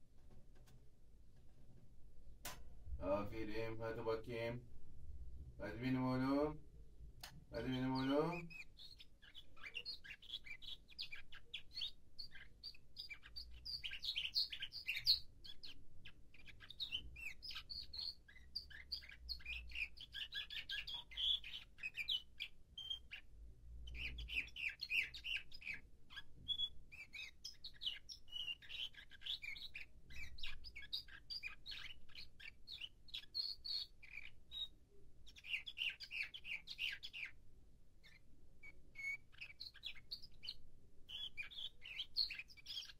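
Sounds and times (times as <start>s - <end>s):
canary singing trills: 7.4s - 42.9s.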